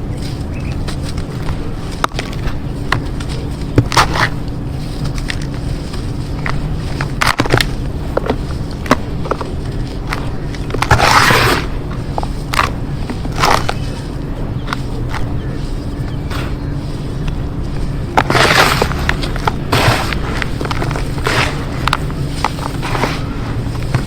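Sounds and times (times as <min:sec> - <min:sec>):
dirt crumbling and crunching: 0:00.0 - 0:24.0
small crackles: 0:00.0 - 0:24.0
steady low hum: 0:00.0 - 0:24.0.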